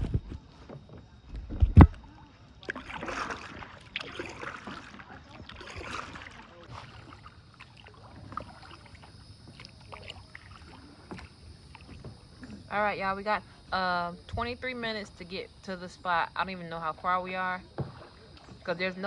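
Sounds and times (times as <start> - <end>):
paddle splashing water: 0.0 - 19.0.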